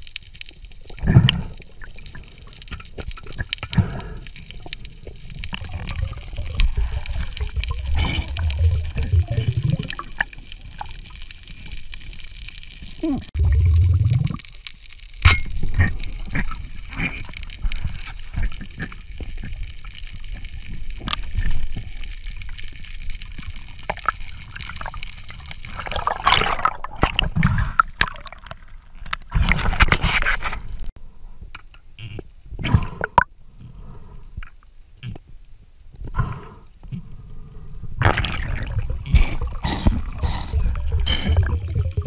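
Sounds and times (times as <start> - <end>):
underwater bubbling gurgle: 0.0 - 29.9, 37.0 - 42.0.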